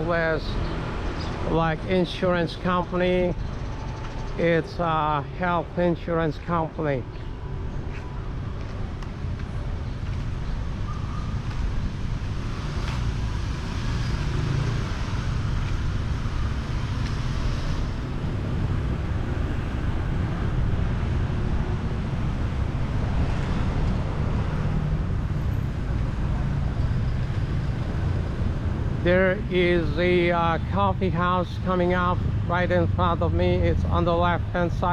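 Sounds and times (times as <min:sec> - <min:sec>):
street traffic passing: 0:00.0 - 0:34.9.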